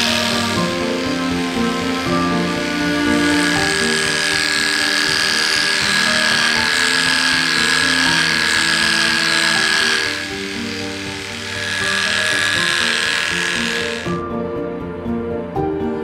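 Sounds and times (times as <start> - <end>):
electric clippers buzzing: 0.0 - 14.3
background music with sustained notes: 0.0 - 16.0.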